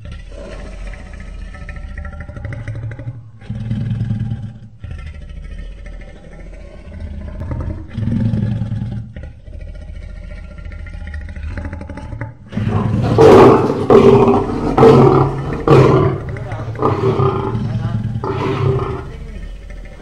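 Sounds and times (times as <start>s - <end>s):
lion roaring: 0.0s - 20.0s.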